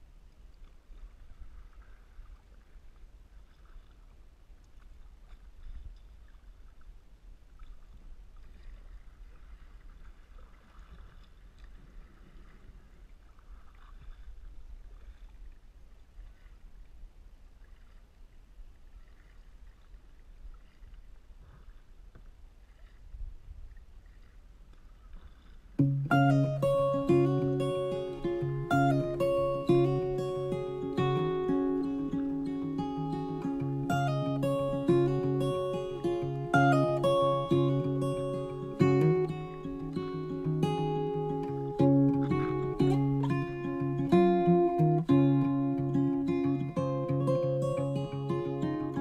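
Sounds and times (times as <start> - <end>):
paddle splashing in water: 0.2 - 49.0.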